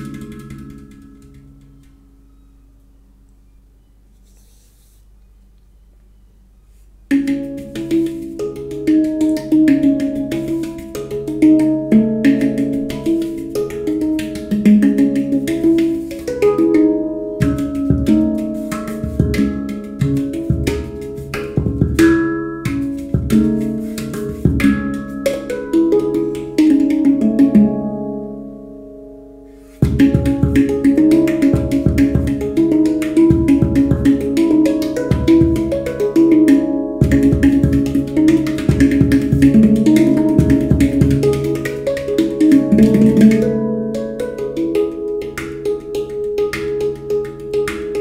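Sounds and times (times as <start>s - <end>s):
deep low handpan strikes: 0.0s - 2.5s, 7.1s - 28.7s, 29.7s - 48.0s
handpan ringing steel notes: 0.0s - 2.8s, 7.1s - 48.0s.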